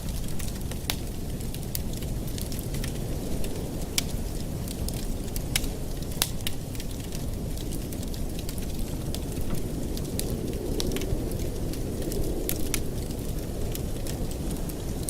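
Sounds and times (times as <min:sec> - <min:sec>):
fire pops and snaps: 0:00.0 - 0:15.0
low rumble of burning: 0:00.0 - 0:15.0
wood fire crackling: 0:00.0 - 0:15.0.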